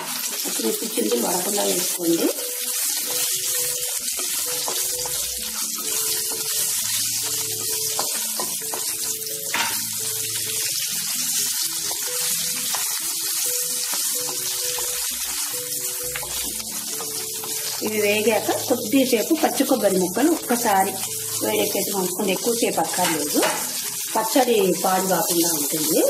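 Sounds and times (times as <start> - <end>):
chillies sizzling in hot oil: 0.0 - 26.0.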